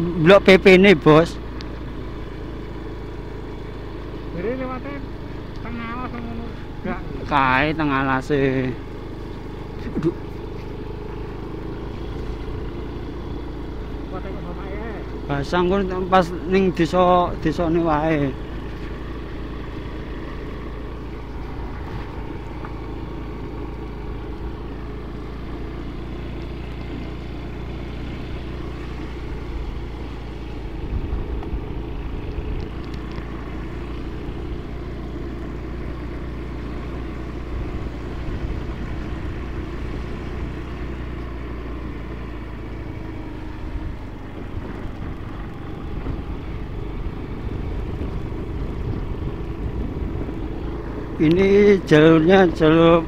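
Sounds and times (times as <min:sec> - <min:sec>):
scooter engine running: 0:00.0 - 0:53.0.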